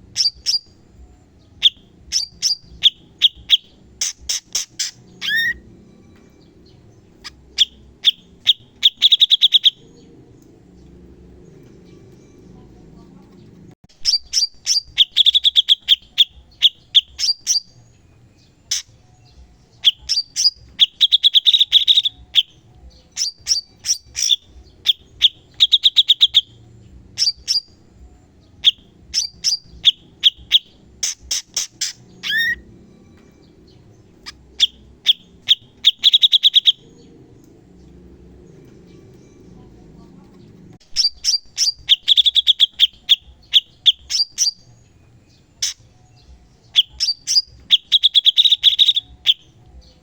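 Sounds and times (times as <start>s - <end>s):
bird singing fast sharp notes: 0.1s - 0.8s, 1.6s - 5.6s, 6.3s - 10.2s, 13.9s - 17.8s, 18.4s - 27.8s, 28.6s - 37.5s, 40.8s - 50.0s.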